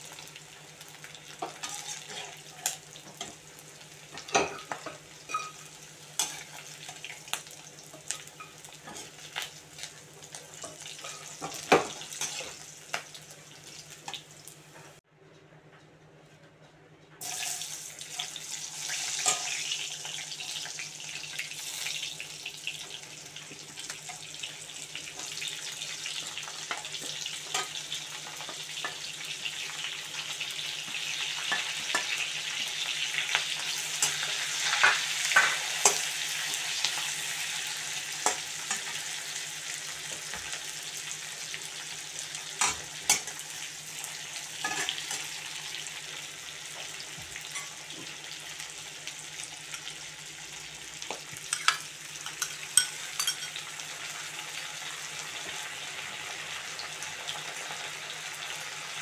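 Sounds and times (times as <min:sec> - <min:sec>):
onions sizzling in a pan: 0:00.0 - 0:15.0, 0:17.2 - 0:59.0.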